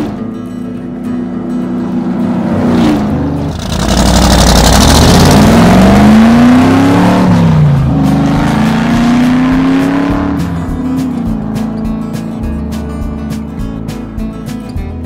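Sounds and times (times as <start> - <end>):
race car engine revving: 1.0 - 13.8.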